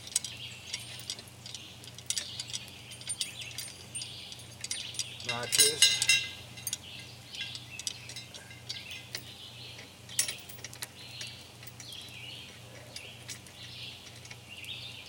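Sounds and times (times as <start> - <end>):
metal chain clinking: 0.0 - 14.8
birds calling: 0.0 - 15.0.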